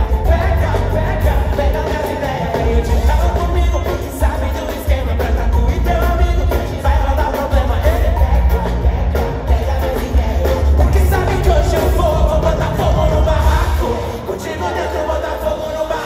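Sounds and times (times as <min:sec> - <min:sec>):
person singing: 0:00.0 - 0:16.0
pop music with bass and drums: 0:00.0 - 0:16.0.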